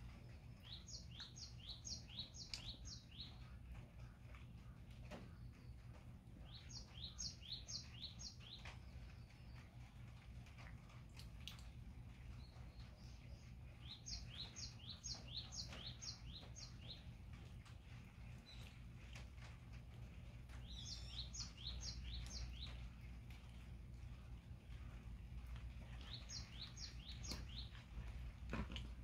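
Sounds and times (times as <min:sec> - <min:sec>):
songbird singing: 0:00.0 - 0:10.6, 0:11.4 - 0:29.0
low steady rumble: 0:00.0 - 0:29.0.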